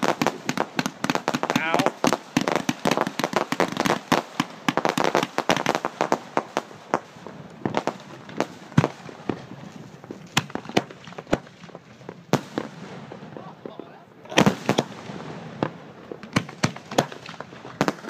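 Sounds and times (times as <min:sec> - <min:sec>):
fireworks crackling bangs: 0:00.0 - 0:18.0.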